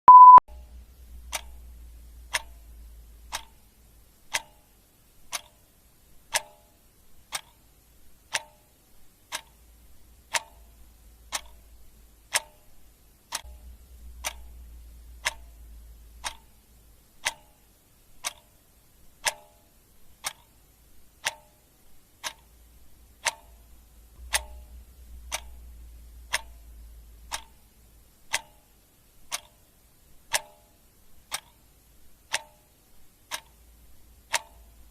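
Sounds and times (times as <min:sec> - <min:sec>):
clock ticking: 0:00.1 - 0:34.9
faint low hum: 0:00.1 - 0:34.9.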